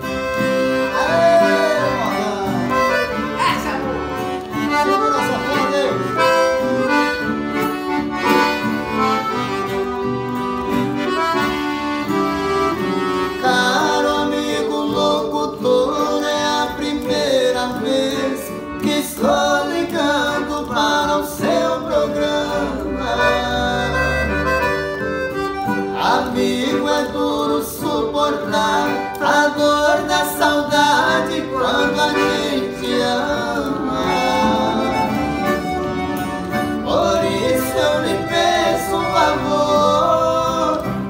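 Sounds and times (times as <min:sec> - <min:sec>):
voices singing: 0:00.0 - 0:10.0, 0:11.0 - 0:41.0
piano accordion: 0:00.0 - 0:41.0
strummed acoustic guitar: 0:00.0 - 0:41.0.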